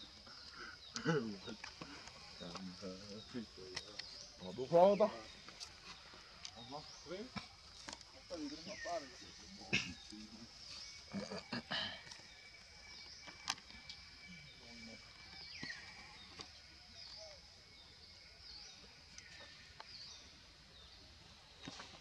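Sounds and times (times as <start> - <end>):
bird chirping: 0.0 - 22.0
faint outdoor ambience: 0.0 - 22.0.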